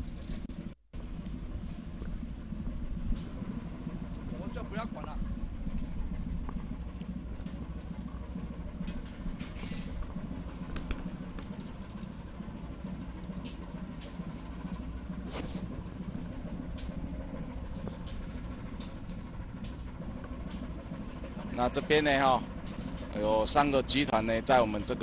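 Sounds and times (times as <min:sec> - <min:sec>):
ship engine rumbling: 0:00.0 - 0:25.0.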